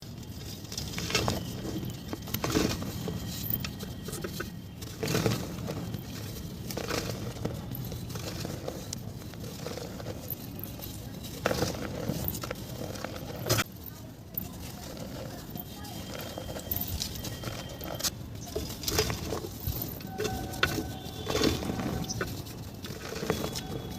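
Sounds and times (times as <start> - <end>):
wet mud squelching and crackling: 0.0 - 23.9.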